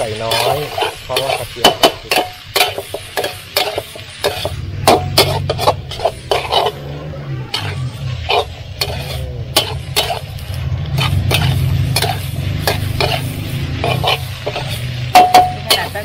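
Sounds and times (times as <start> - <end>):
food sizzling: 0.0 - 16.0
metal spatula clanking on wok: 0.0 - 16.0.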